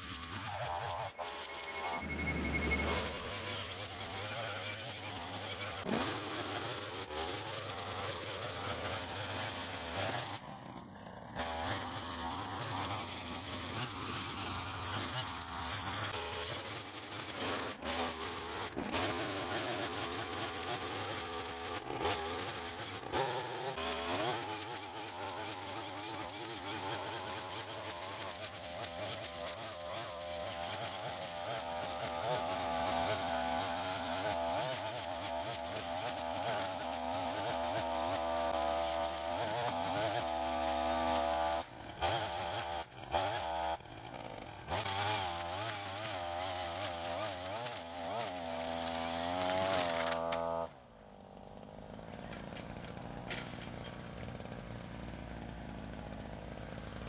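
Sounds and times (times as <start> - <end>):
brush cutter engine buzzing: 0.0 - 57.0
trimmer cord cutting grass: 0.0 - 57.0.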